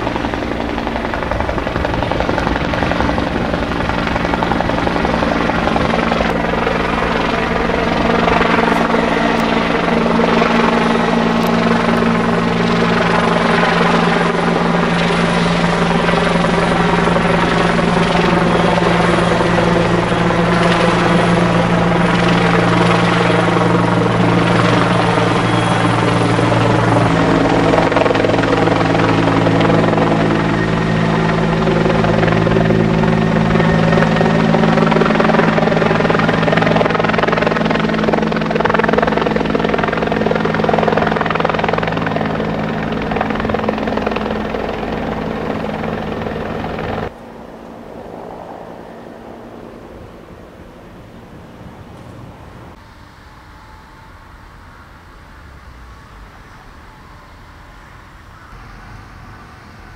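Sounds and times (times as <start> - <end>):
helicopter flying overhead: 0.0 - 59.9.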